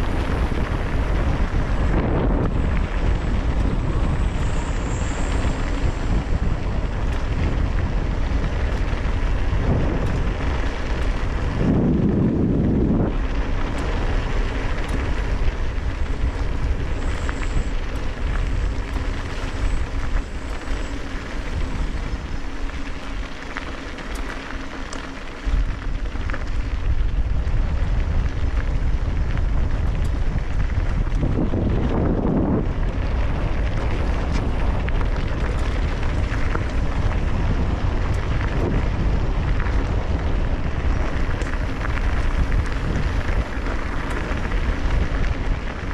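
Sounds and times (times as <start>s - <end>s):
bike clicks and rattles: 0.0s - 45.9s
wind rushing over microphone: 0.0s - 45.9s.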